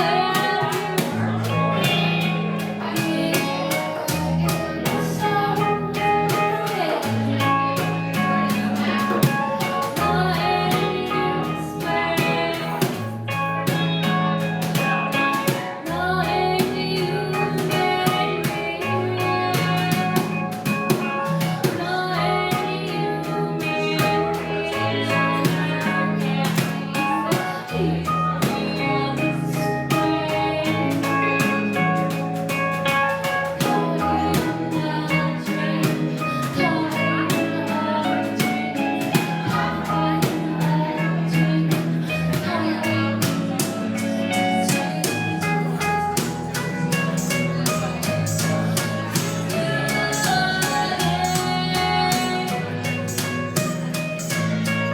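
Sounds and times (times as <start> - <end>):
bass line: 0.0 - 54.9
drum kit with busy cymbals: 0.0 - 54.9
guitar: 0.0 - 54.9.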